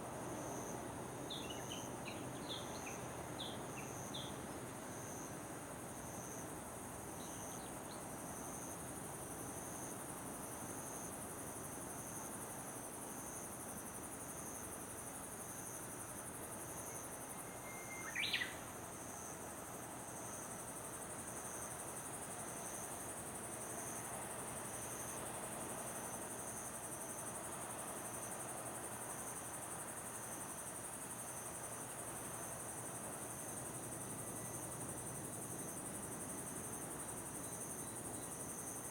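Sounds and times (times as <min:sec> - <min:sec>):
insects chirping chorus: 0:00.0 - 0:38.9.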